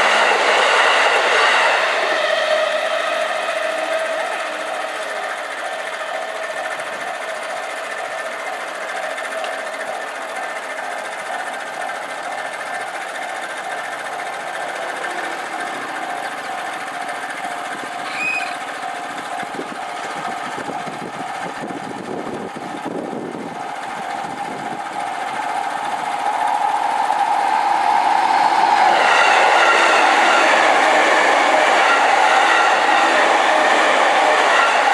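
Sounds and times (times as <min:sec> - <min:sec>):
level-crossing alarm dinging: 0:00.0 - 0:34.9
train rumble: 0:00.0 - 0:34.9.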